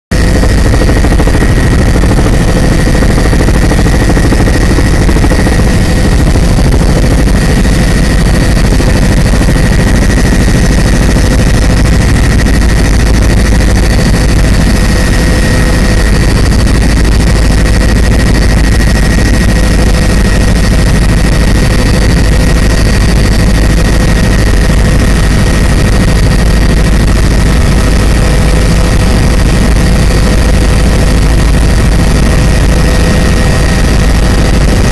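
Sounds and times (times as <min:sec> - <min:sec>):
aircraft engine rumble: 0:00.1 - 0:34.9
high whine: 0:00.1 - 0:34.9.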